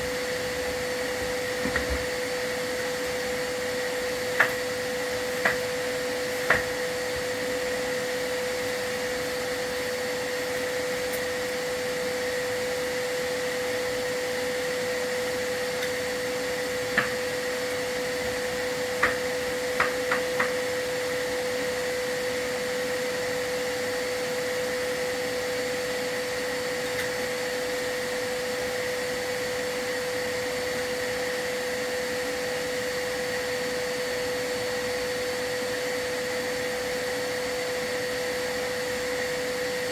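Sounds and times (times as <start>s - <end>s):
vacuum whining: 0.0s - 39.9s.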